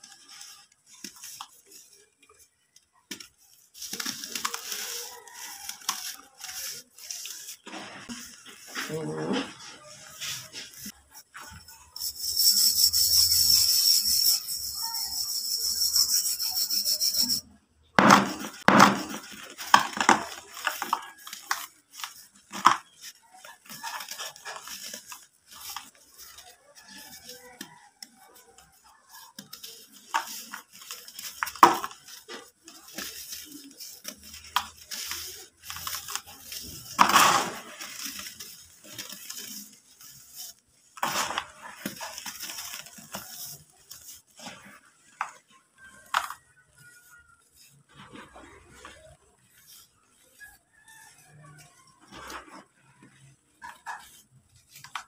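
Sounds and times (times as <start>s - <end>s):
falling powder rustling: 0.0s - 55.0s.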